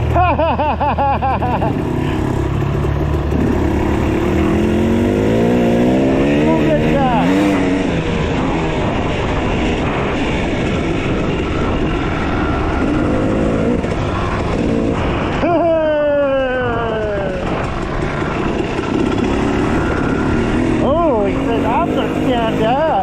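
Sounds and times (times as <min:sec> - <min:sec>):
dirt bike engines running: 0:00.0 - 0:23.0
rushing riding noise: 0:00.0 - 0:23.0.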